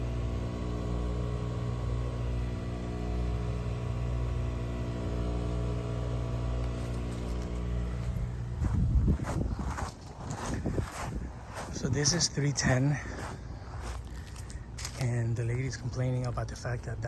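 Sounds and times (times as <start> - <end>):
water pump humming: 0.0 - 17.0.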